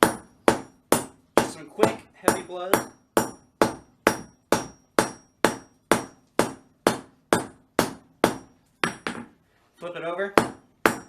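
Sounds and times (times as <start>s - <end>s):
hammer striking hot steel: 0.0s - 9.3s, 10.4s - 11.0s.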